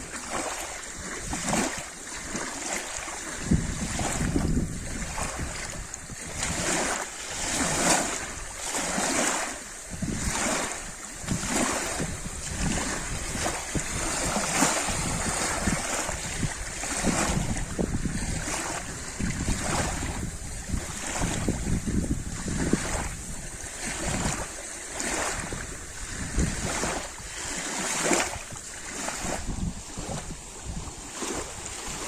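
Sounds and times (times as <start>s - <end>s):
water lapping at the shore: 0.0s - 32.0s
wind rumble on microphone: 0.0s - 32.0s.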